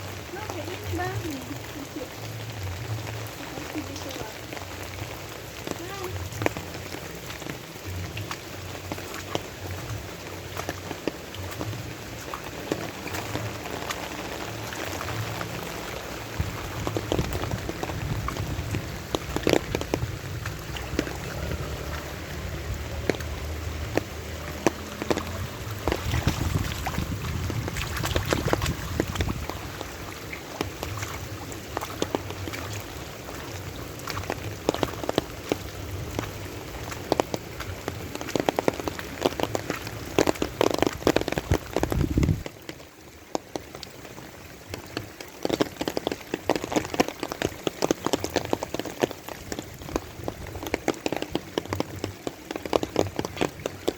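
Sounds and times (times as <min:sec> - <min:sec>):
raindrops striking close by: 0:00.0 - 0:53.9
steady rain falling: 0:00.0 - 0:53.9.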